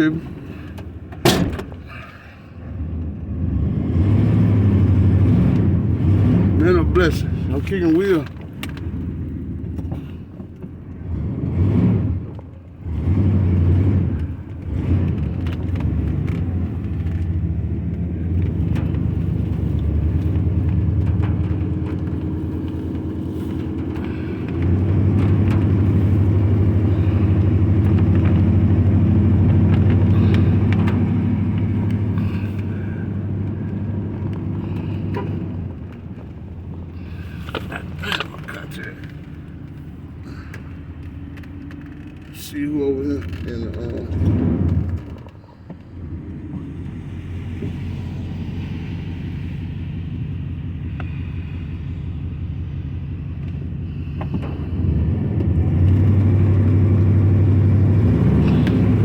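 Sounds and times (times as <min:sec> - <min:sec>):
truck engine and road hum: 0:00.0 - 0:59.0.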